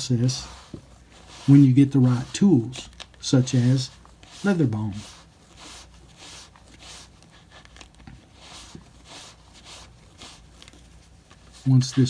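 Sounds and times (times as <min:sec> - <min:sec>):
soft rubbing on leather: 0:00.0 - 0:12.0.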